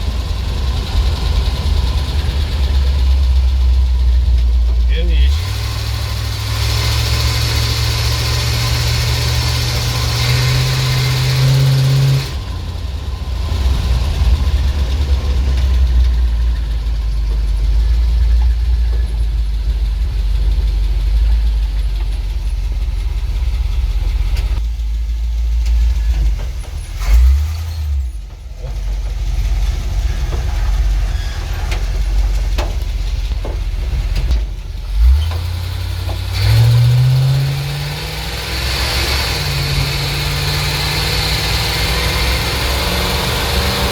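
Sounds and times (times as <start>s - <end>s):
engine throttle blips: 0.0s - 43.9s
truck engine revving and idling: 0.0s - 43.9s.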